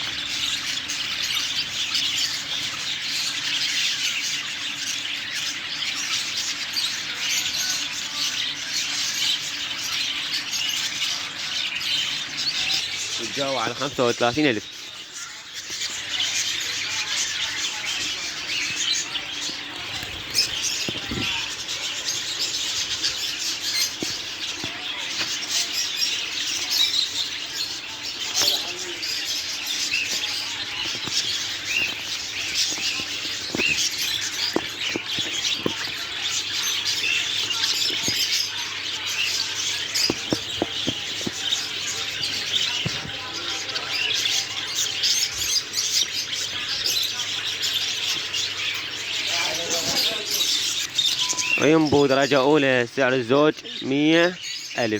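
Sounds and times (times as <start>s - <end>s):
caged birds chirping: 0.0s - 54.9s.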